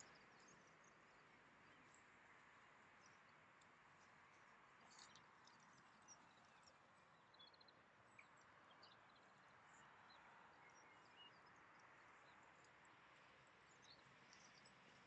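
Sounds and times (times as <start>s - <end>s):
faint songbird chirps: 0.0s - 15.0s.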